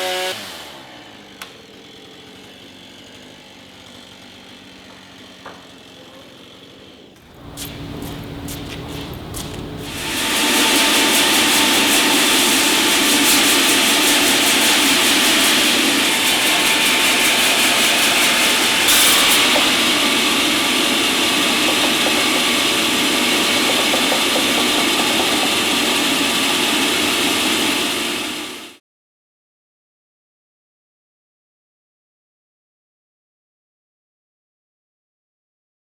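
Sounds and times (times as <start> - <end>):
sawmill saw running: 0.0 - 28.8.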